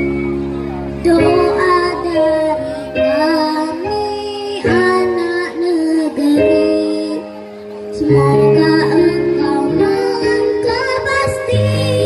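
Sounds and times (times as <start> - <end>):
electronic keyboard chords: 0.0 - 12.0
girl singing through microphone: 0.7 - 12.0.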